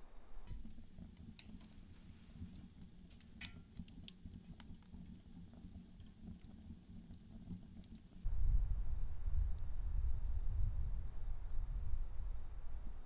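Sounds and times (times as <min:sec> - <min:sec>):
fire crackling and popping: 0:00.4 - 0:10.9
low stove rumble: 0:00.4 - 0:13.0.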